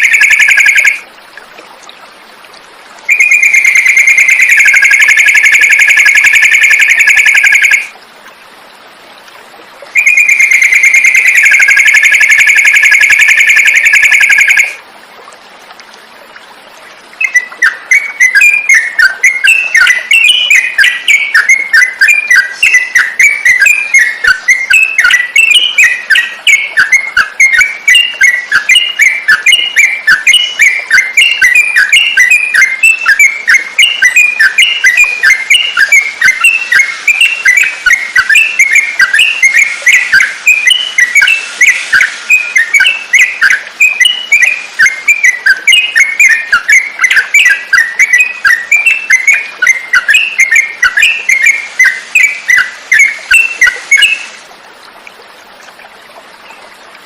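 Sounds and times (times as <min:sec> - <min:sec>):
bird singing chirpy whistles: 0:03.1 - 0:07.9, 0:10.0 - 0:14.8, 0:17.2 - 0:54.4.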